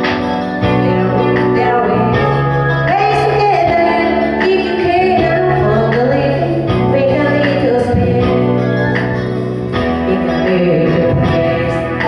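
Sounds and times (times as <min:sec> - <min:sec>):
instrumental backing track: 0:00.0 - 0:12.0
woman singing into microphone: 0:00.6 - 0:12.0.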